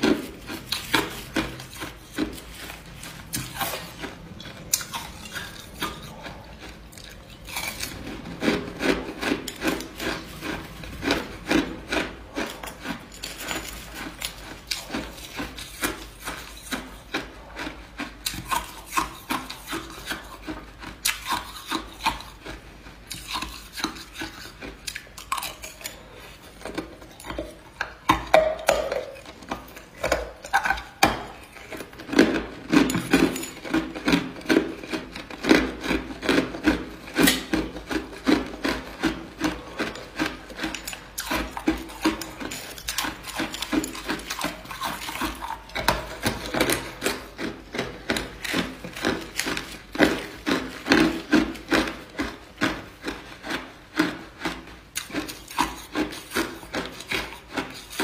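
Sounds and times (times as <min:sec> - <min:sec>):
ice crunching between teeth: 0:00.0 - 0:58.0.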